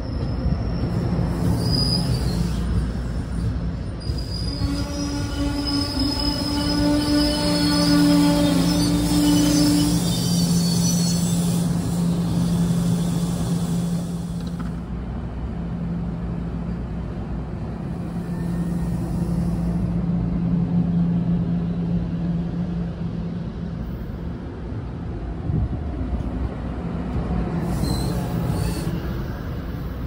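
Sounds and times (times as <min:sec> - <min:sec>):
train rolling past: 0:00.0 - 0:30.0.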